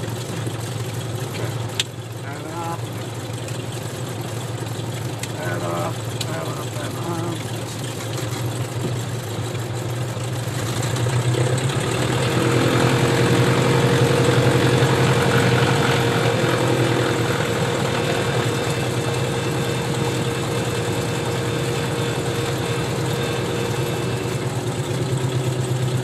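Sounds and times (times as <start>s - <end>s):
aircraft piston engine humming: 0.0s - 26.0s.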